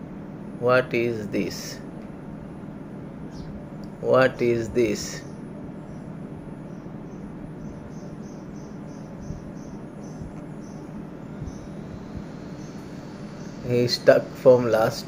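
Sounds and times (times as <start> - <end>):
insect chirping: 0.3 - 15.0.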